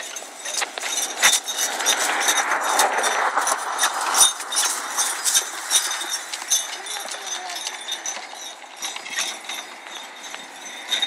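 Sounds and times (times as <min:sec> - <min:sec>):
cart rattling over grass: 0:00.0 - 0:11.0
harness clinking: 0:00.0 - 0:11.0
hoofbeats: 0:00.0 - 0:11.0.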